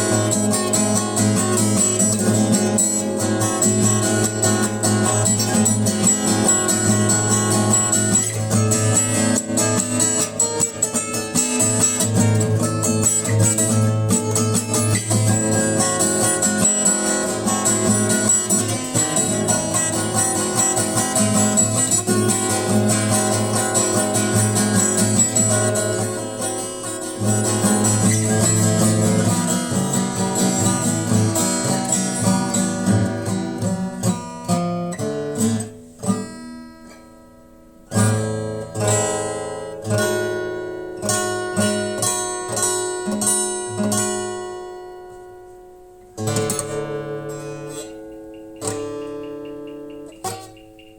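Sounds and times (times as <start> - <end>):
acoustic guitar strummed and plucked: 0.0 - 50.9.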